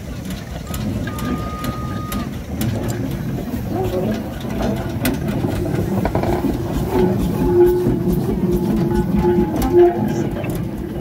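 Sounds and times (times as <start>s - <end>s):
steam locomotive running slowly: 0.0s - 11.0s
wheels clicking over rail joints: 0.0s - 11.0s.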